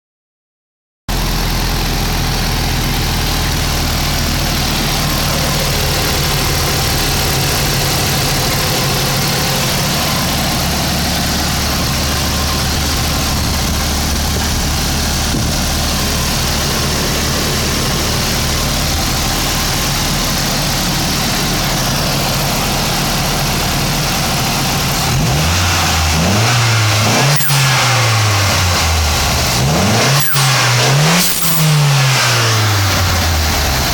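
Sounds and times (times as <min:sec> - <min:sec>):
car engine idling and revving: 0:01.1 - 0:33.9.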